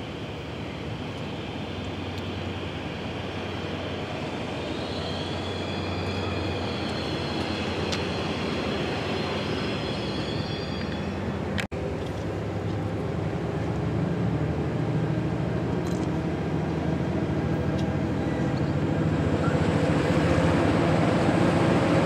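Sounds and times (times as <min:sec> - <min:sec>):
train rumble approaching: 0:00.0 - 0:22.0.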